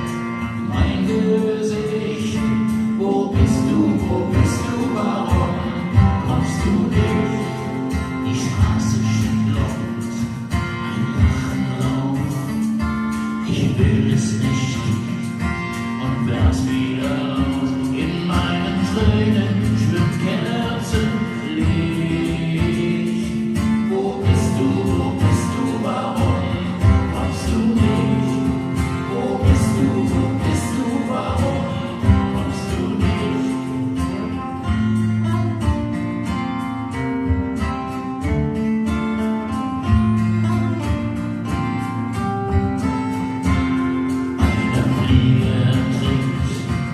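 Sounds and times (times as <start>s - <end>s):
man singing: 0.0s - 38.2s, 41.5s - 46.9s
guitar playing: 0.0s - 46.9s.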